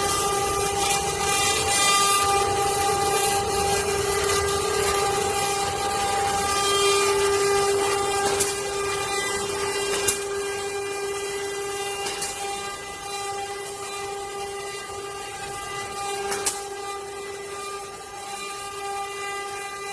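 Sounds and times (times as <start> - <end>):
router spindle whine: 0.0 - 19.9.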